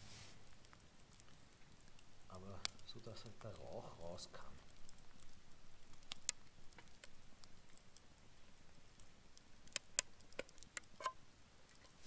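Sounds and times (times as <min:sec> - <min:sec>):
faint sharp clicks and ticks: 0:00.4 - 0:12.0.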